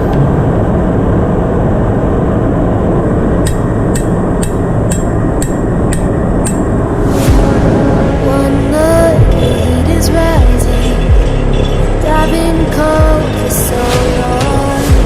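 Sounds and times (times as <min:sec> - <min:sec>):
engine-room machinery rumble: 0:00.0 - 0:15.0.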